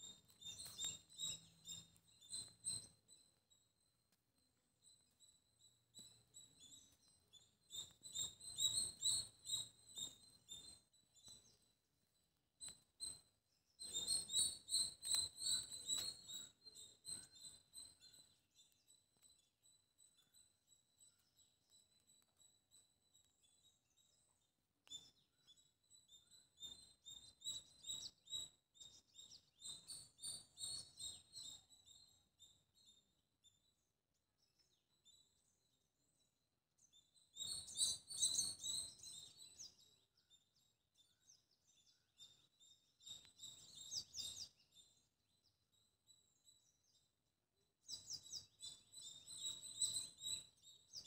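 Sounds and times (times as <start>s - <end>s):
small bird chirping faintly: 0.0s - 51.0s.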